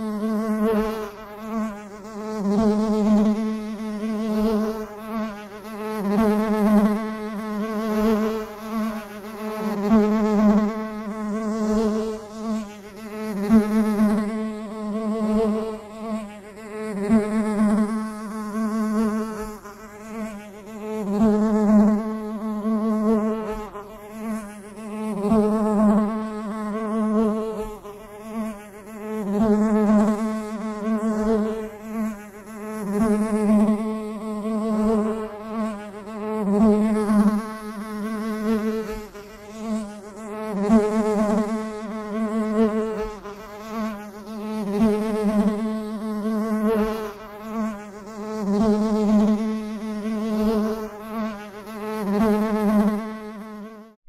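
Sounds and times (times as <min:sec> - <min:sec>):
bee buzzing in flight: 0:00.0 - 0:54.0.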